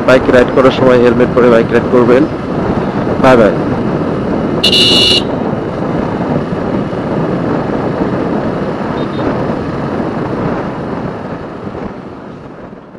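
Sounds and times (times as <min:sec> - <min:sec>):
wind and road noise: 0:00.0 - 0:12.9.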